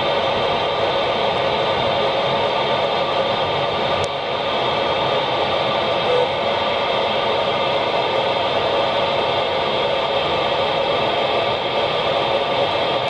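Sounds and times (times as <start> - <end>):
car road noise: 0.0 - 13.0
radio receiver hiss: 0.0 - 13.0.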